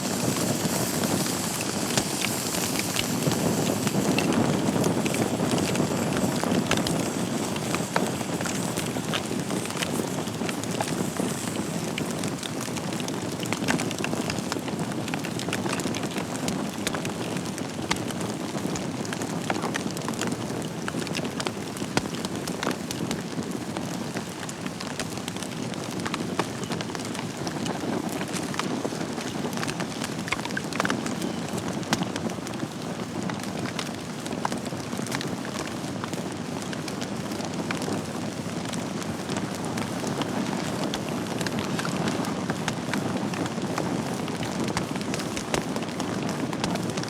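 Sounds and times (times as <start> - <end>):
fire flames rushing: 0.0 - 47.0
logs crackling and popping: 0.0 - 47.0.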